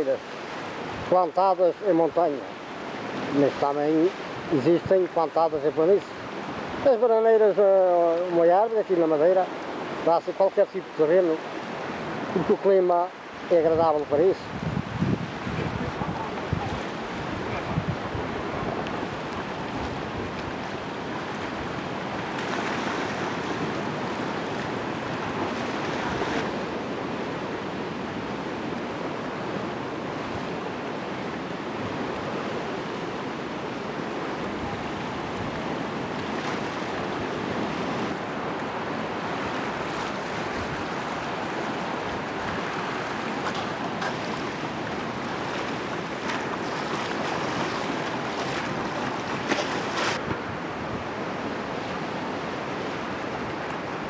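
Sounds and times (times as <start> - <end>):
surf breaking on rocky shore: 0.0 - 54.0.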